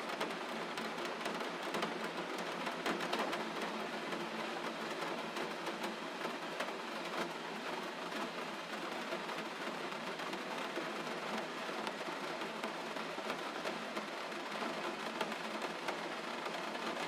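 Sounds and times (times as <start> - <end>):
gentle rain: 0.0 - 17.0.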